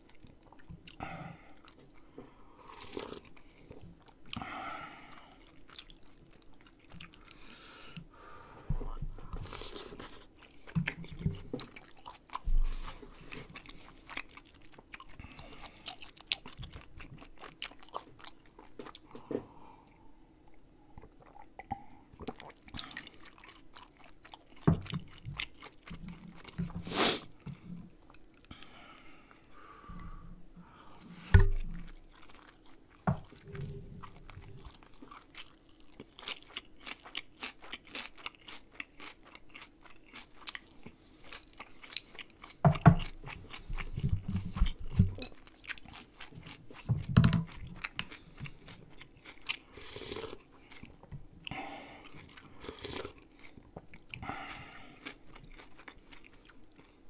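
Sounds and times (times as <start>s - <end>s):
person chewing with wet sounds: 0.0s - 8.1s, 8.8s - 57.0s.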